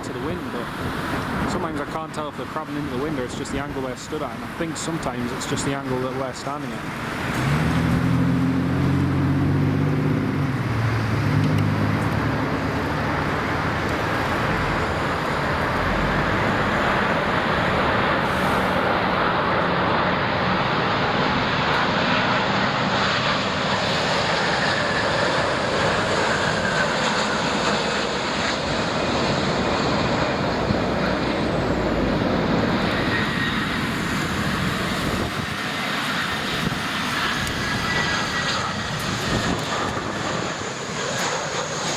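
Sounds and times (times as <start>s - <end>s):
jet engines rushing: 0.0s - 41.9s.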